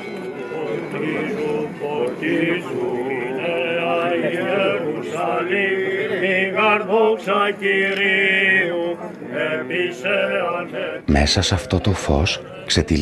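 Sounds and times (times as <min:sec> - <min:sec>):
men chanting a hymn: 0:00.5 - 0:13.0.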